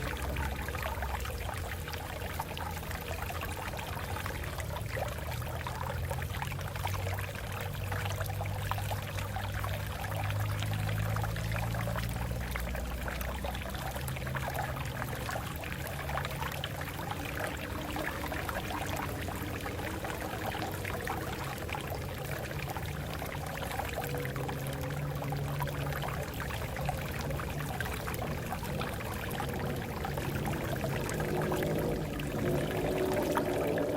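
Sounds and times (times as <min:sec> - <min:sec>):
water flowing over rocks: 0:00.0 - 0:33.9.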